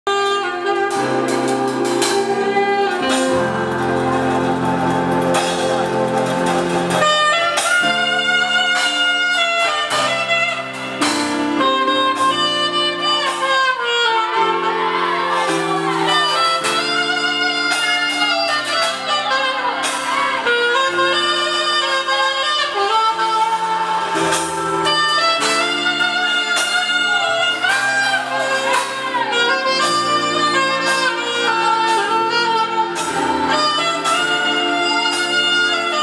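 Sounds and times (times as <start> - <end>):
keyboard: 0.0 - 36.0
saxophone melody: 0.0 - 36.0
drums: 0.1 - 36.0
electric bass guitar: 0.1 - 36.0.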